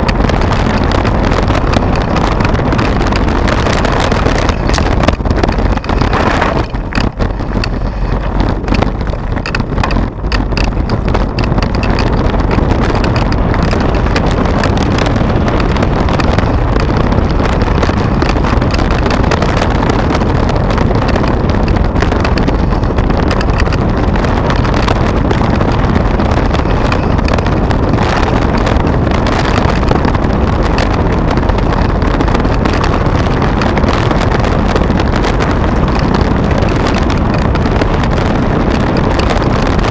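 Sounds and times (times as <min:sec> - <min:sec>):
bike clattering over rough ground: 0:00.0 - 0:39.9
bike tyres on gravel: 0:00.0 - 0:39.9
wind buffeting microphone: 0:00.0 - 0:39.9.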